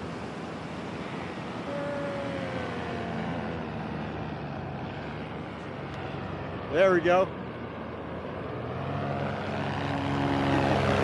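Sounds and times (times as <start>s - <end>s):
paramotor engine droning past: 0.0s - 11.0s
steady rushing noise: 0.0s - 11.0s.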